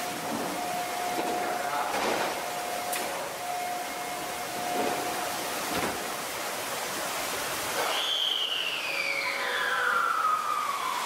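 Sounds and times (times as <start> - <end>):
subway train hiss: 0.0 - 11.0.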